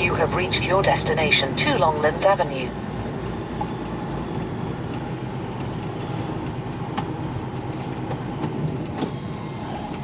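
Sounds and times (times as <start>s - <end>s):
lorry engine running: 0.0s - 10.0s.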